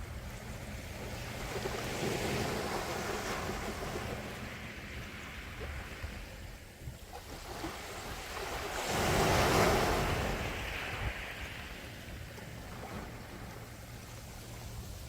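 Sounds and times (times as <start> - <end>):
low rumble of surf: 0.0 - 15.0
wave washing in: 0.0 - 15.0.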